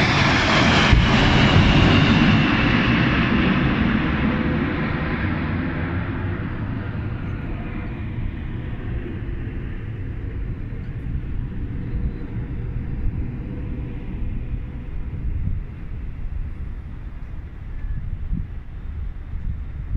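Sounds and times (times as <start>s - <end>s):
jet aircraft roaring overhead: 0.0s - 19.9s
low rumble: 0.0s - 19.9s.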